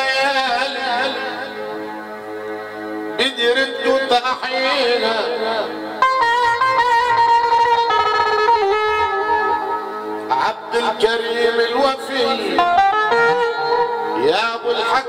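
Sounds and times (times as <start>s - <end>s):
electronic keyboard melody: 0.0s - 15.0s.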